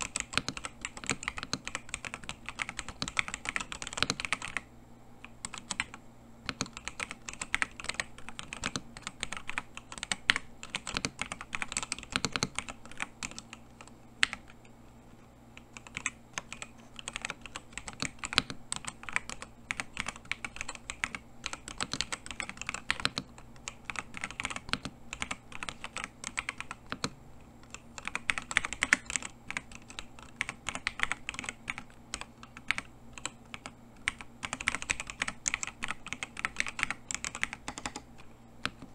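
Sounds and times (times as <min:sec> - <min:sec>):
mechanical keyboard typing: 0:00.0 - 0:14.7, 0:15.6 - 0:38.9.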